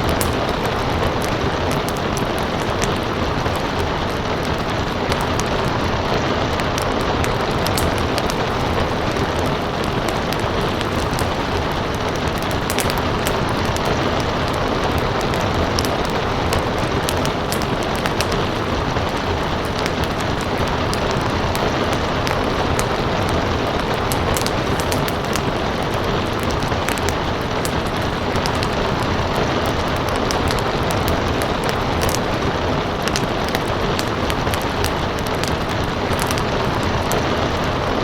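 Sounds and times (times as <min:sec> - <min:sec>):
steady rain: 0:00.0 - 0:38.0
wood fire crackling and popping: 0:00.0 - 0:38.0.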